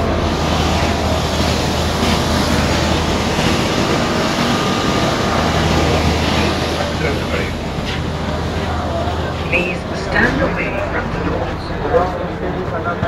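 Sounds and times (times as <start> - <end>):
train humming and rumbling: 0.0 - 13.0.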